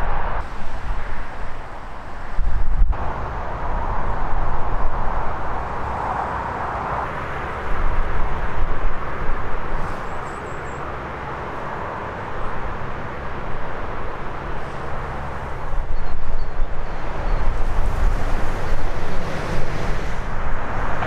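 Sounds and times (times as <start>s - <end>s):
wind gusting on microphone: 0.0s - 21.0s.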